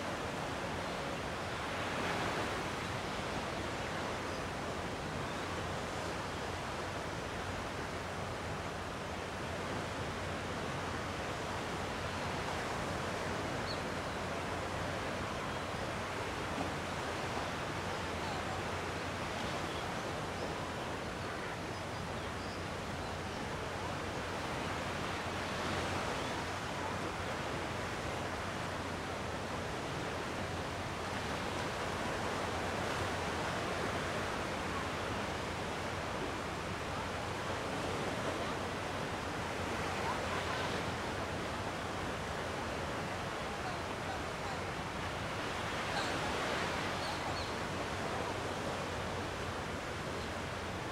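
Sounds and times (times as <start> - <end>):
sea waves washing on shore: 0.0 - 50.9.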